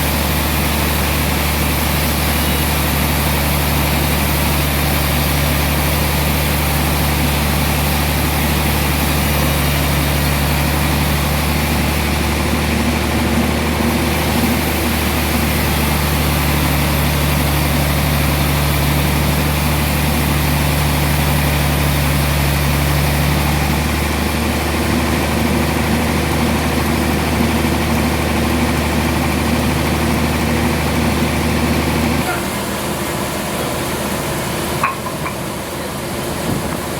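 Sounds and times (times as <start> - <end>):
sawmill machinery humming: 0.0 - 36.9.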